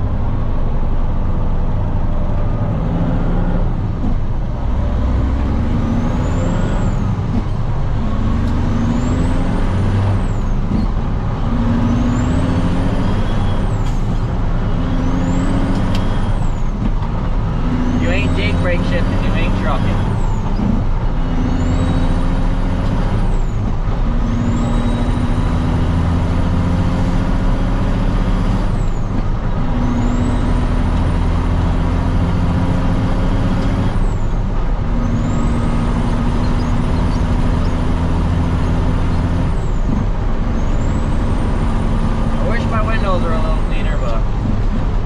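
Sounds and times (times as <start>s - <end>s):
truck engine accelerating: 0.0s - 45.0s.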